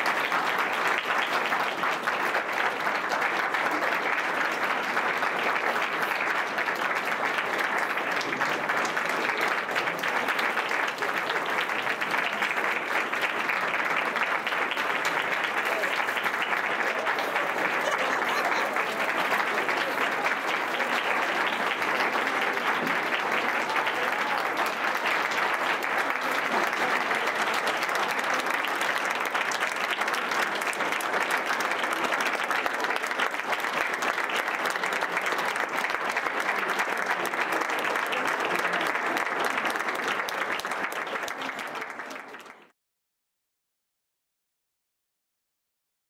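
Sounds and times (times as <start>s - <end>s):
audience applauding: 0.0s - 42.7s.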